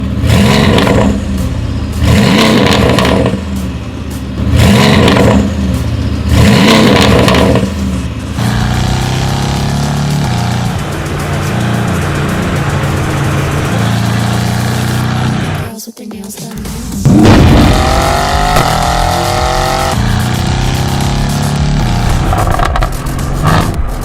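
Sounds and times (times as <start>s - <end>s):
car engine revving and idling: 0.0s - 15.7s, 16.9s - 24.0s.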